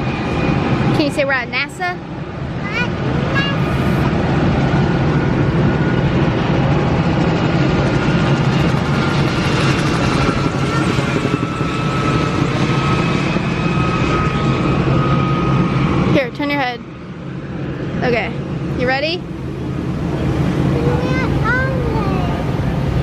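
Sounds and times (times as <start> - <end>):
aircraft engine droning: 0.0 - 23.0.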